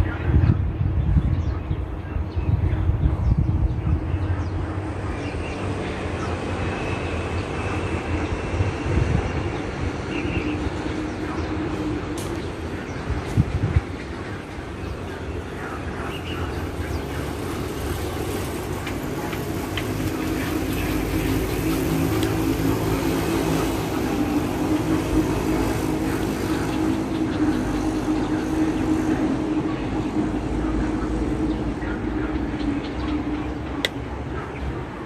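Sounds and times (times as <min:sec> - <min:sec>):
vehicle rumble: 0:00.0 - 0:35.0.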